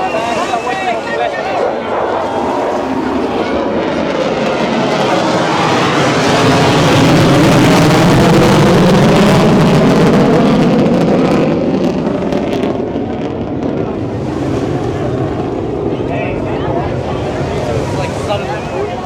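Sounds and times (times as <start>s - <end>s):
jet aircraft flying overhead: 0.0s - 19.0s.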